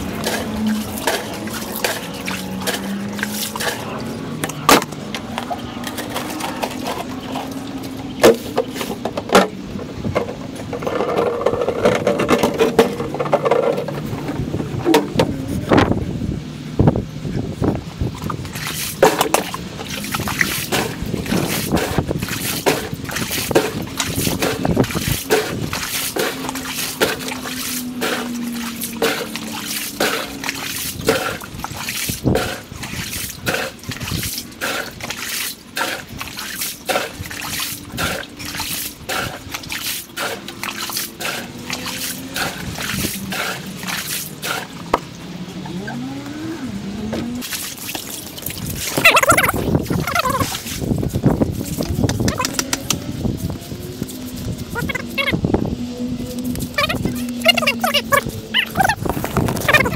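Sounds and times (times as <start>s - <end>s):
bucket splashing pool water: 0.0s - 15.4s, 18.0s - 45.9s, 47.0s - 55.4s, 56.3s - 59.9s.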